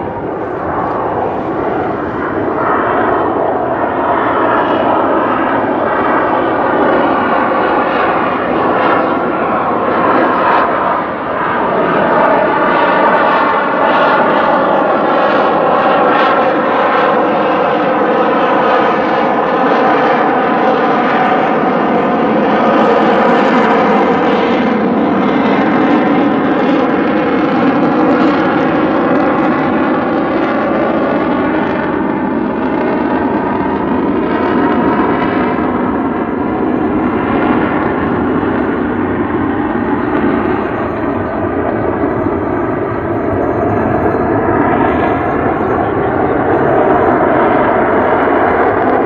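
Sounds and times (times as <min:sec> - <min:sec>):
jet engines roaring overhead: 0:00.0 - 0:49.0.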